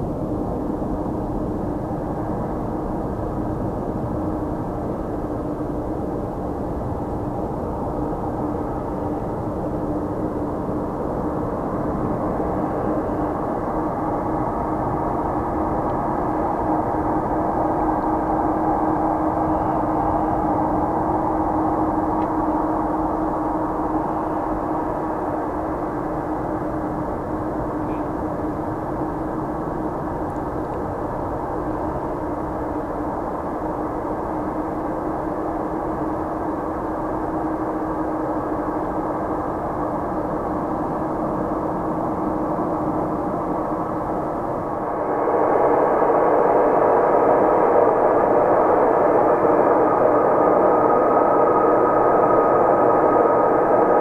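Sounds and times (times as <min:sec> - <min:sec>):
jet engines humming: 0:00.0 - 0:54.0.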